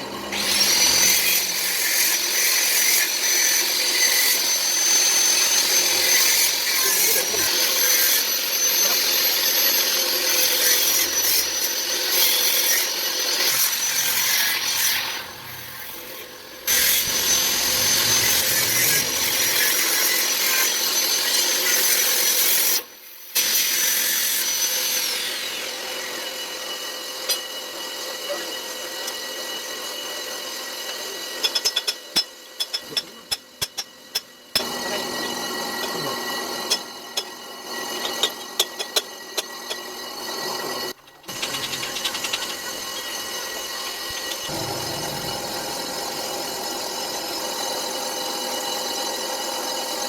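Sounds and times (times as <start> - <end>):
power tool grinding metal: 0.0 - 50.0.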